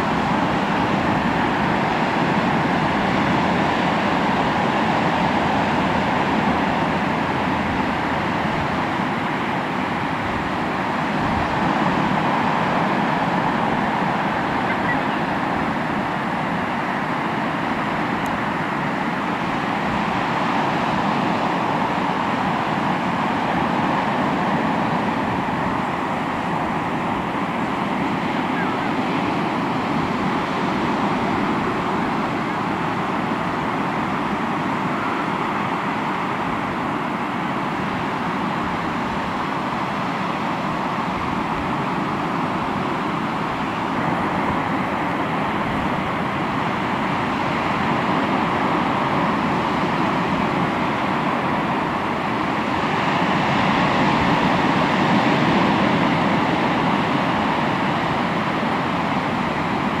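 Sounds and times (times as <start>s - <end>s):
sea waves washing onto shore: 0.0s - 60.0s.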